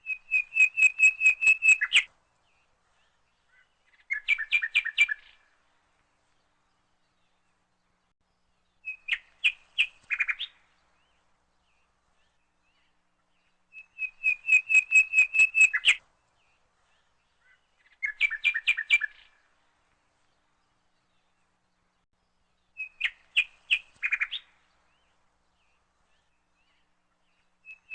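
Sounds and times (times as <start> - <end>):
bird chirping: 0.0 - 5.5, 6.2 - 19.5, 20.2 - 27.9.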